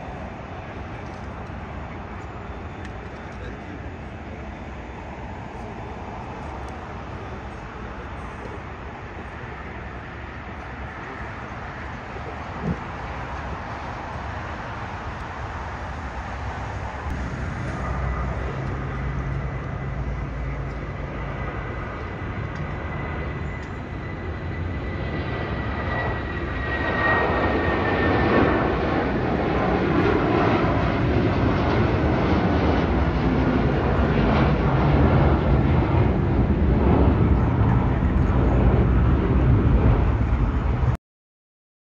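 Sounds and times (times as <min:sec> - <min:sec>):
jet engine rumble: 0:00.0 - 0:41.0.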